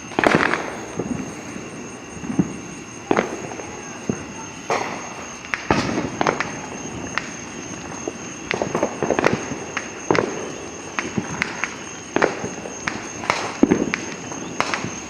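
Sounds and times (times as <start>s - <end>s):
fireworks popping and banging: 0.0s - 15.0s.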